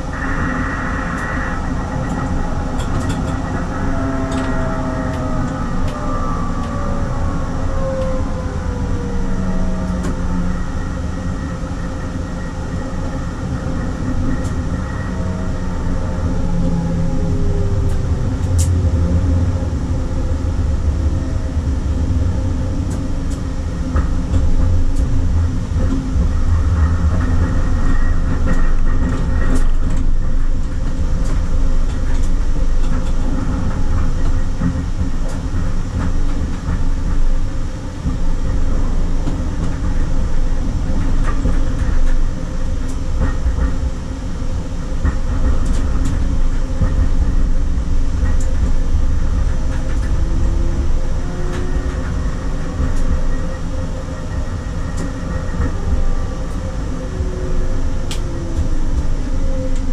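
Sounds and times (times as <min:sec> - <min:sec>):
faint steady hum: 0:00.0 - 0:59.9
tram wheels rumbling on rails: 0:00.0 - 0:59.9.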